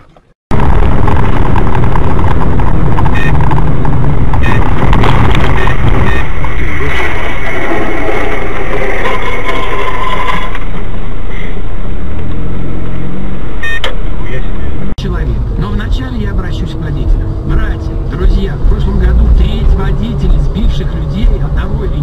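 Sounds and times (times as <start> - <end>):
vehicle and road noise: 0.0 - 22.0.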